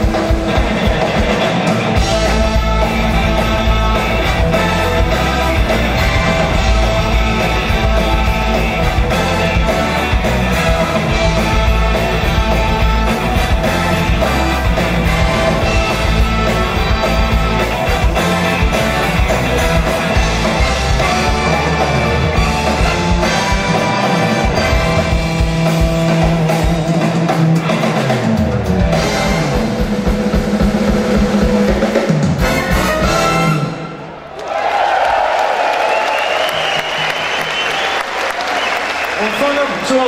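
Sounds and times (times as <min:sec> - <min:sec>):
electric guitar: 0:00.0 - 0:33.9
drum kit: 0:00.0 - 0:34.2.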